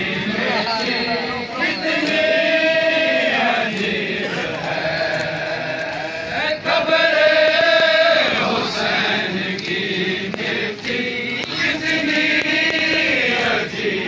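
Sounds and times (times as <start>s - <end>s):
voices chanting: 0.0s - 14.0s.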